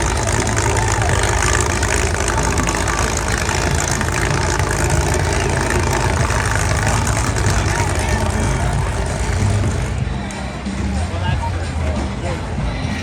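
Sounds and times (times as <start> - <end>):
car engines idling: 0.0 - 10.8.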